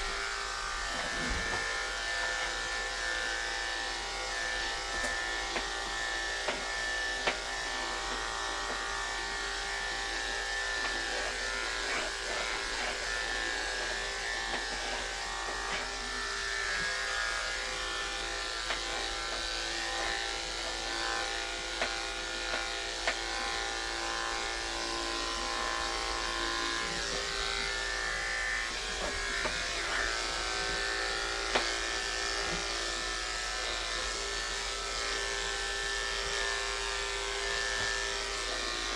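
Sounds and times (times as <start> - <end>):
electric clippers humming: 0.0 - 38.9.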